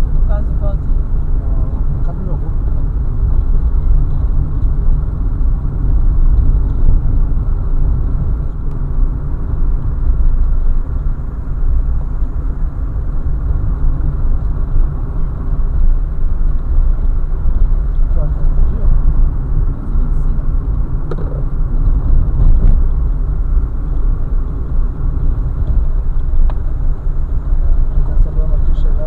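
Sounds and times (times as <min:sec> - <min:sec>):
car tyres and engine rumbling: 0:00.0 - 0:29.0.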